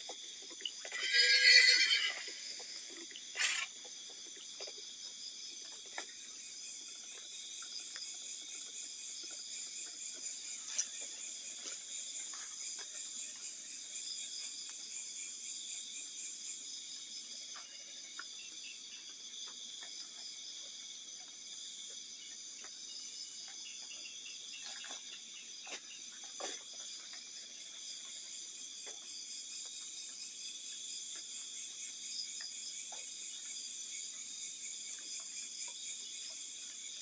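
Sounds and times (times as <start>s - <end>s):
faint scattered ticks: 0.0s - 37.0s.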